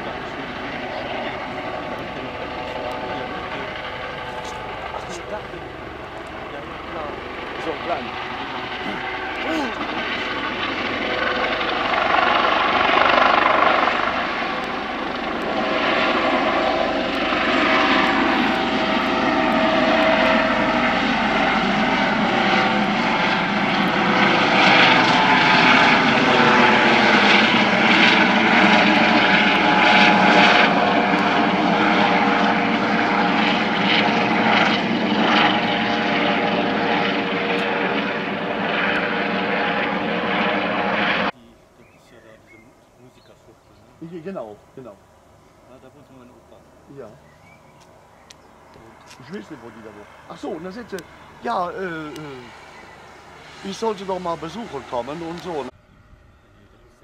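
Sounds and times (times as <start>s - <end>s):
helicopter rotor and turbine whine: 0.0s - 57.0s.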